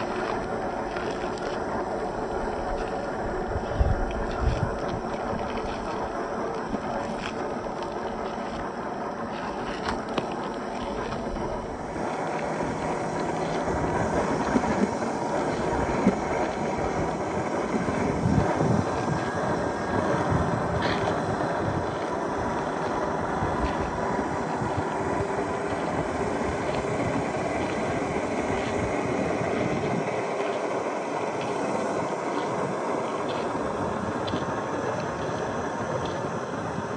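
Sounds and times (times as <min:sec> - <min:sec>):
electric motor and gear whine: 0:00.0 - 0:36.9.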